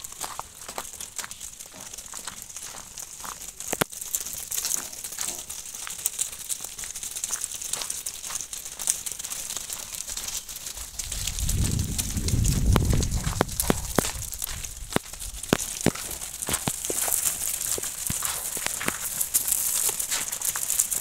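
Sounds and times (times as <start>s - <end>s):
hooves on gravel: 0.0s - 21.0s.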